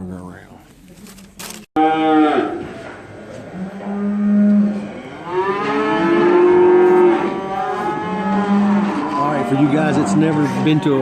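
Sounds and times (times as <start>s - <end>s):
cattle bawling: 1.8s - 11.0s.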